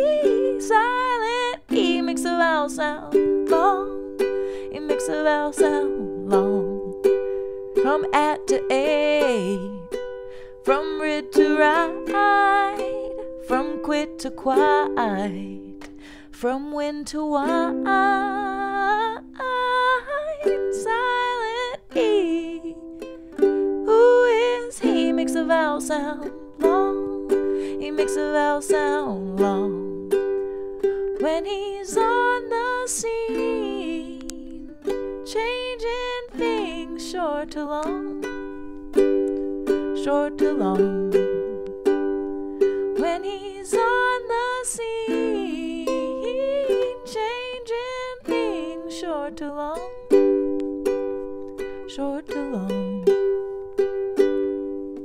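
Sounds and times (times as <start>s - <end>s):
woman singing: 0.0s - 51.0s, 51.6s - 54.3s
ukulele strumming: 0.0s - 55.0s.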